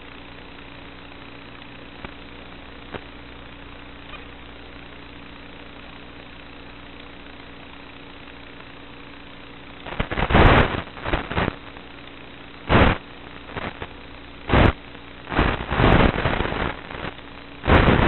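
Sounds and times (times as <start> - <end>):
bursts of hissing static: 0.0 - 18.0
steady electrical hum: 0.0 - 18.0.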